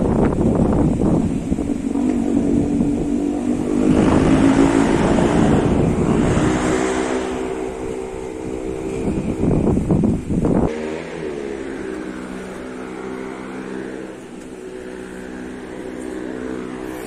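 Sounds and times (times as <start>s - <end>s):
engine hum: 0.0s - 17.0s
wind rumbling on microphone: 0.0s - 17.0s.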